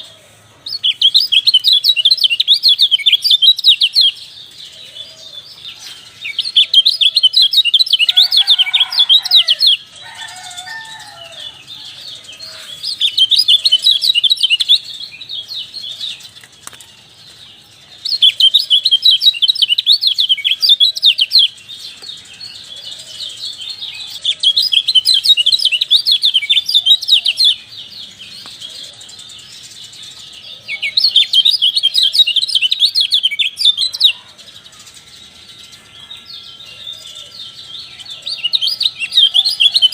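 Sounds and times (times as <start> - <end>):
songbird chirping twitter: 0.0 - 39.9.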